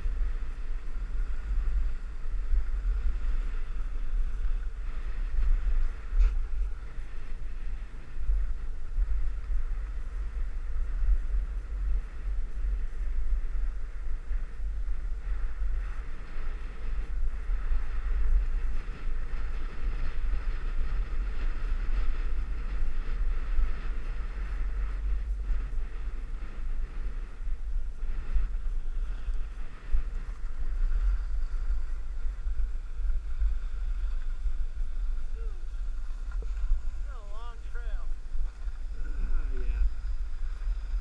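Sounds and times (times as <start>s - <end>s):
skis sliding on snow: 0.0s - 41.0s
wind buffeting microphone: 0.0s - 41.0s.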